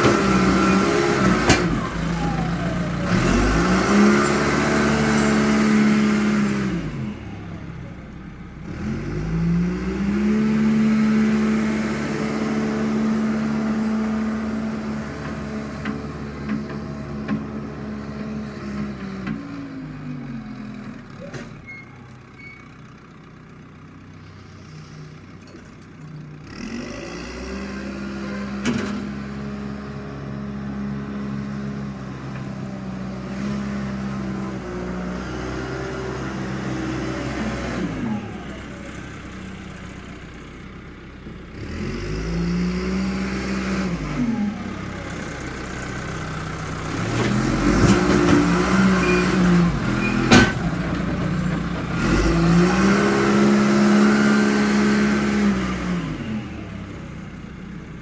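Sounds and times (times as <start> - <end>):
diesel engine revving: 0.0 - 21.7, 26.3 - 58.0.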